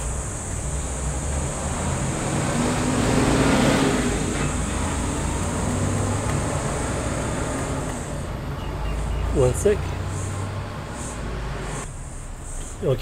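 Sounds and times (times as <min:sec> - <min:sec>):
high hiss: 0:00.0 - 0:08.2, 0:09.6 - 0:13.0.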